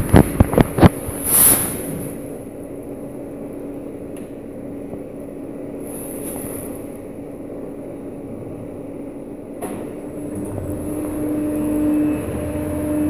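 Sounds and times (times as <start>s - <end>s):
lift rumbling and humming: 0.0s - 13.0s.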